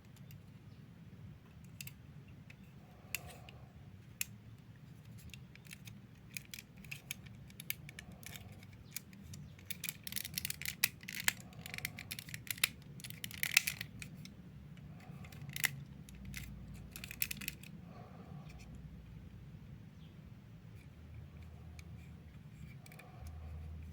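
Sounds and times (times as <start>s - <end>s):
small sharp clicks and rattles: 1.4s - 18.8s, 20.8s - 23.9s.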